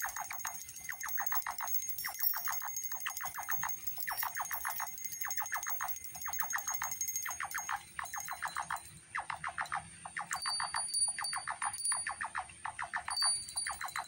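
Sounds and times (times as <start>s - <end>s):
bursts of rapid clicking pulses: 0.0s - 14.0s.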